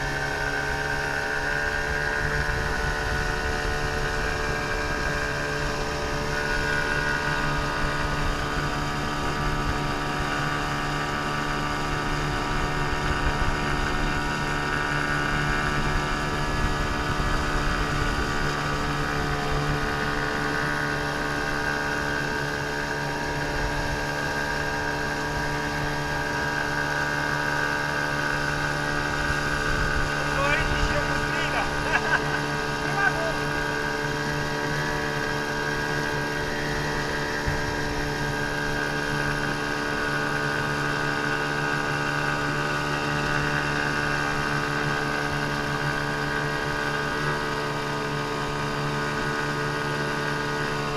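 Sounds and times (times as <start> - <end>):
high engine whine: 0.0 - 50.9
outboard motor droning: 0.0 - 50.9.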